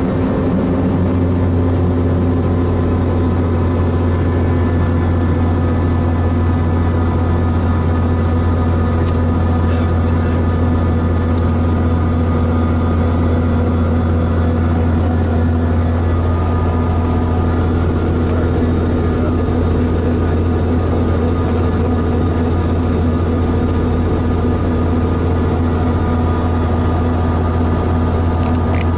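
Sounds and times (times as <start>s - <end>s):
helicopter engine and rotor running: 0.0s - 28.9s.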